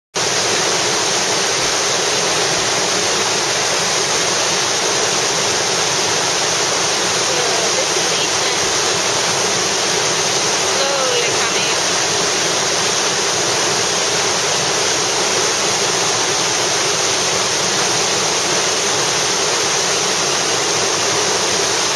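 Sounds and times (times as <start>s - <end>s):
water rushing over rocks: 0.1s - 21.9s.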